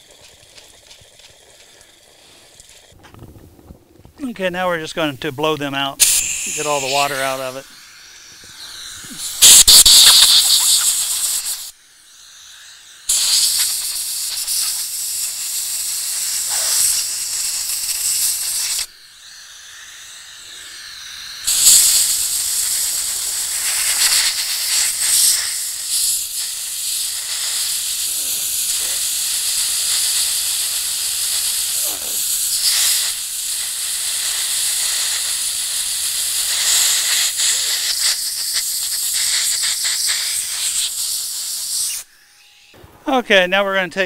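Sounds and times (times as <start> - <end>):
compressed air blow gun hissing: 0.0 - 3.0, 5.6 - 42.1.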